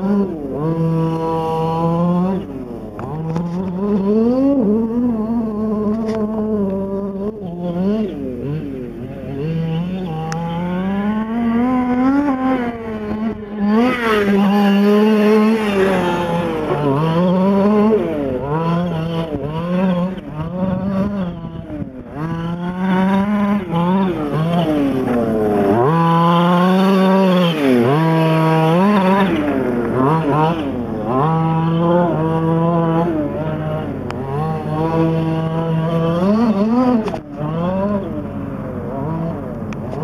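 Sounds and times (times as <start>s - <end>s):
rc truck two-stroke engine revving: 0.0s - 40.0s.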